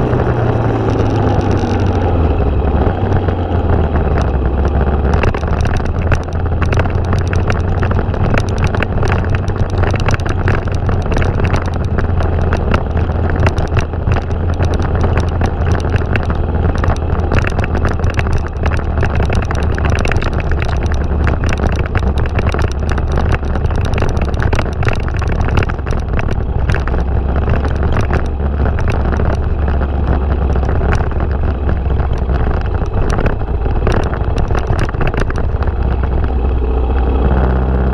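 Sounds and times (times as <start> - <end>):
motorcycle engine running: 0.0 - 37.9
wind buffeting microphone: 0.0 - 37.9.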